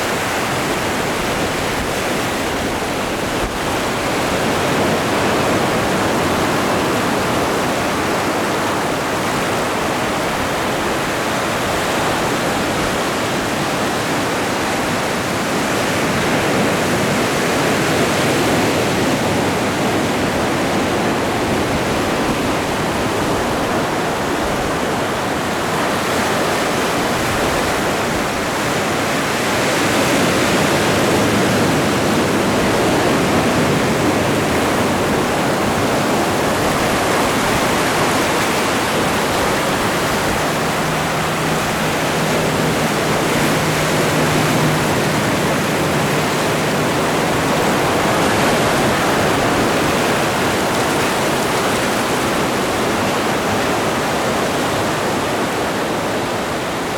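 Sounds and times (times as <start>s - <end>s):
waves breaking on shore: 0.0s - 56.9s.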